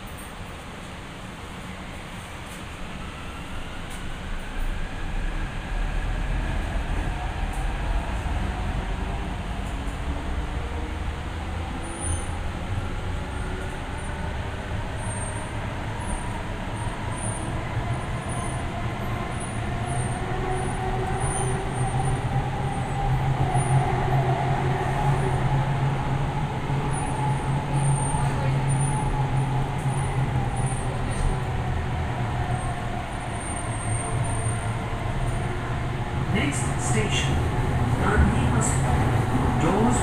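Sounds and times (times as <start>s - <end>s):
passing train: 0.0s - 40.0s
train wheels and motors rumbling: 0.0s - 40.0s.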